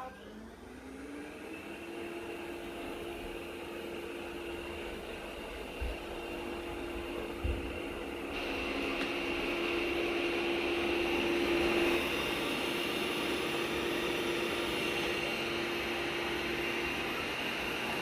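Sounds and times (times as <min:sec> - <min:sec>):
robot vacuum running: 0:00.4 - 0:18.0.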